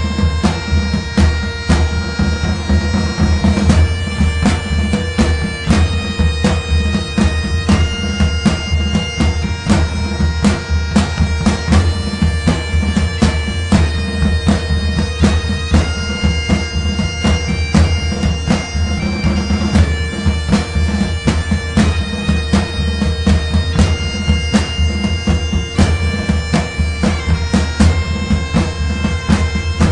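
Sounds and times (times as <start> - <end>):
bagpipes playing: 0.0 - 29.9
drum hits: 0.0 - 29.9.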